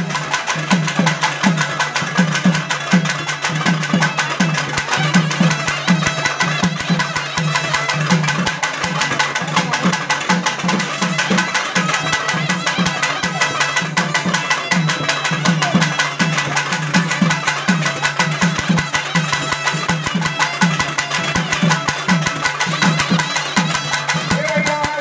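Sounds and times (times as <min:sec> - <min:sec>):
fast traditional drumming: 0:00.0 - 0:25.0.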